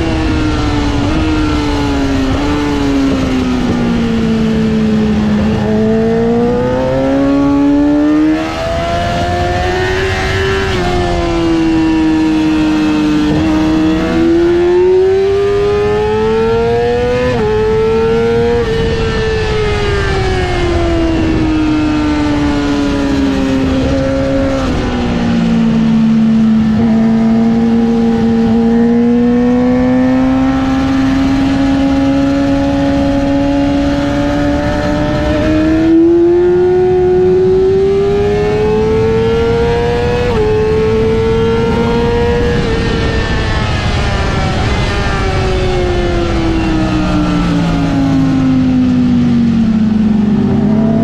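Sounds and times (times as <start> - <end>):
motorcycle engine at high revs: 0.0 - 51.0.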